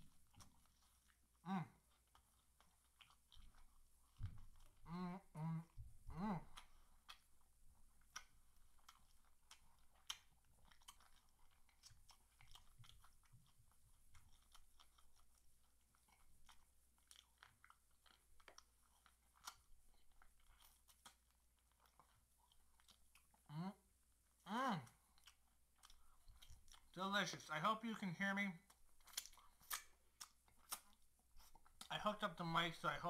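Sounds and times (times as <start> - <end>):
person chewing and crunching: 0.0 - 27.9, 28.5 - 33.0.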